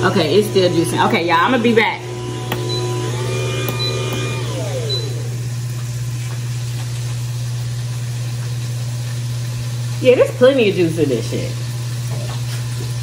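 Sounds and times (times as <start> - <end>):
juicer motor humming: 0.0 - 13.0.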